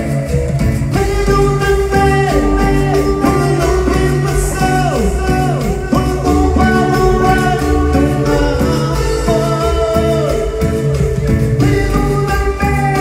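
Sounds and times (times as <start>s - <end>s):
live cumbia band playing: 0.0s - 13.0s
sliding lead guitar line: 0.0s - 13.0s.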